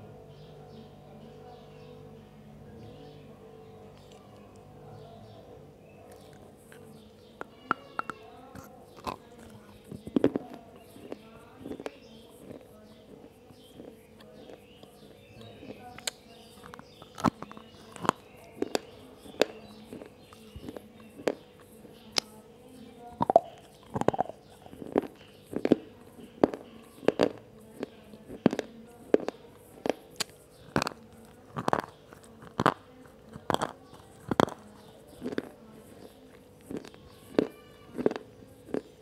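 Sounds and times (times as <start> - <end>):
chewing with dry crunches: 3.8 - 39.0.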